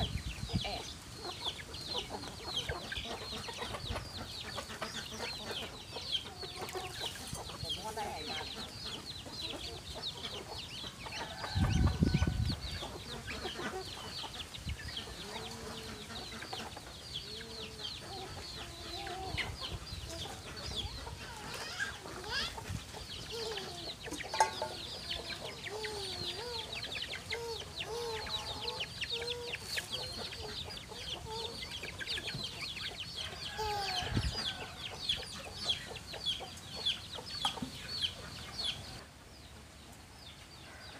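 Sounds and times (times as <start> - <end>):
chickens clucking: 0.0 - 40.9
chicks peeping: 0.0 - 40.9.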